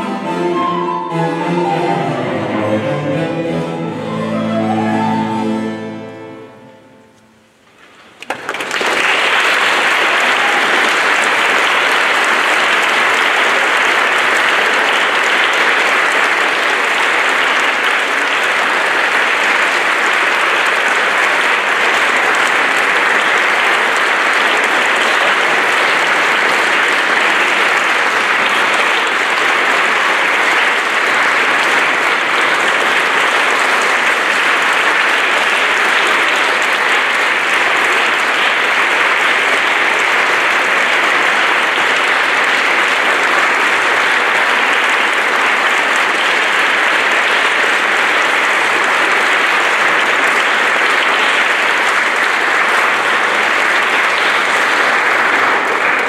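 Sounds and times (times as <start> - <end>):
audience applause: 7.9 - 56.0.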